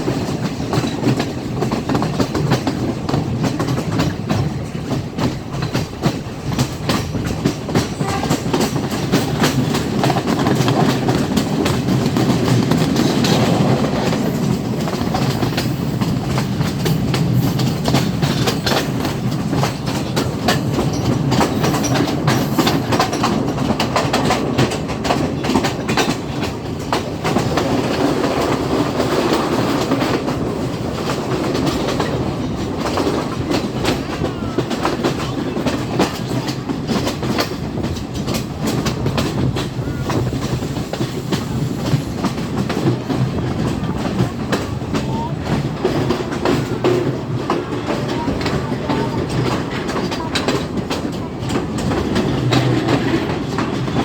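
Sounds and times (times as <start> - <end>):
train rumbling: 0.0 - 54.0
wheels clicking over rail joints: 0.0 - 54.0.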